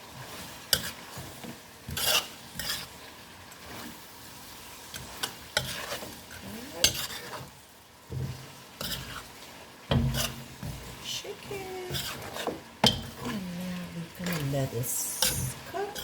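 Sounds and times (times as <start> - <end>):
faint sizzle: 0.0 - 16.0
utensil scraping in a pot: 0.0 - 16.0.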